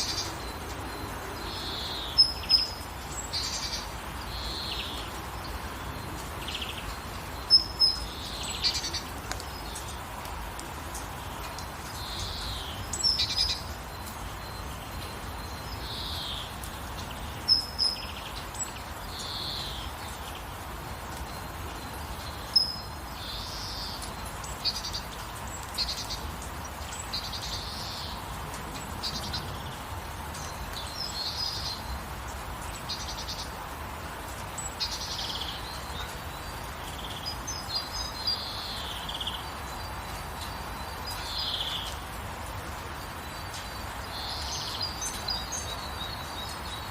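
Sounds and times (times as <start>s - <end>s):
birds chirping: 0.0s - 46.9s
gentle rainfall: 0.0s - 46.9s.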